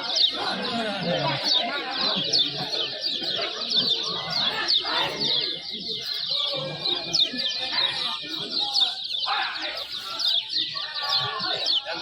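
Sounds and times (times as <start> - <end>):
birds chirping together: 0.0 - 12.0.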